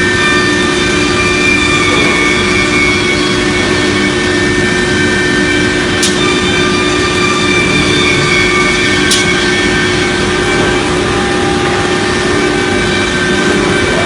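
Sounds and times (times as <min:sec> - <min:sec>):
cnc router running with whine: 0:00.0 - 0:14.0.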